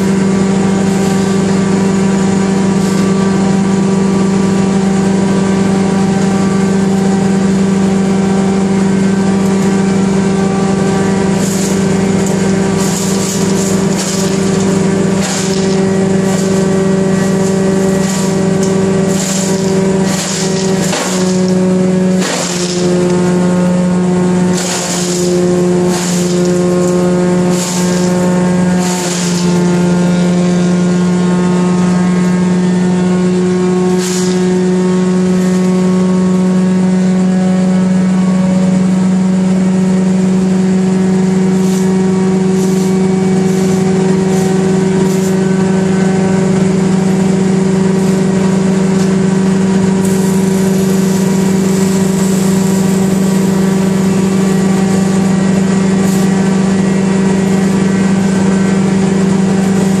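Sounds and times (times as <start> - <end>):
wood chipper running: 0.0 - 60.0.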